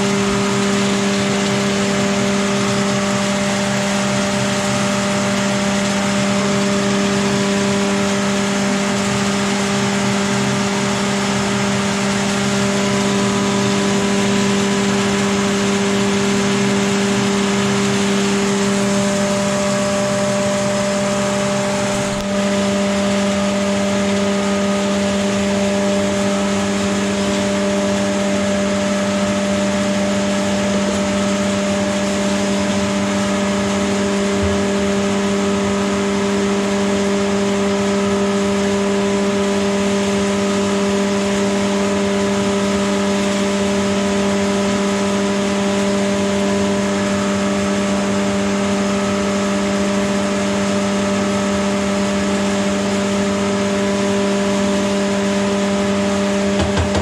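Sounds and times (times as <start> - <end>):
feed mill grinding hum: 0.0 - 57.0.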